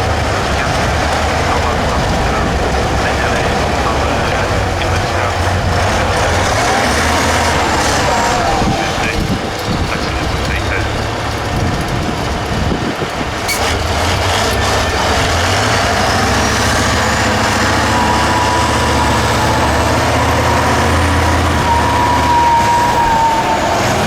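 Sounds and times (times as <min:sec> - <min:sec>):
truck engine running under load: 0:00.0 - 0:24.0.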